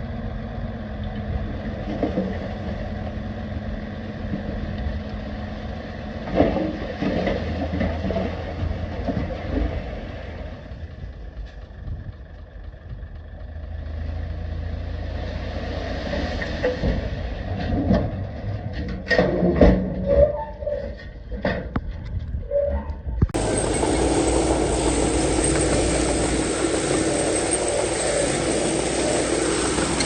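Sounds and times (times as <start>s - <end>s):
heavy diesel engine running: 0.0s - 19.0s, 23.3s - 30.0s.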